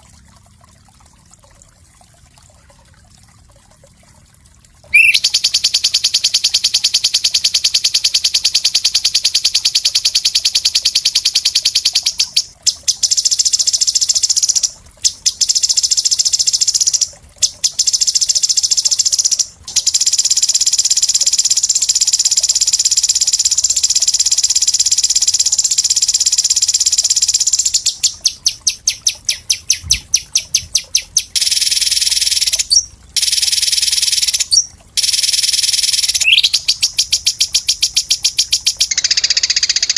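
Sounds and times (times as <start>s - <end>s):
songbird singing rapid trills: 4.9s - 39.9s.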